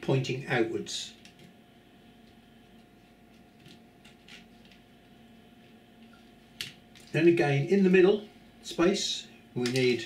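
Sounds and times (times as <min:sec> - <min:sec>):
steady faint hum: 0:00.0 - 0:10.0.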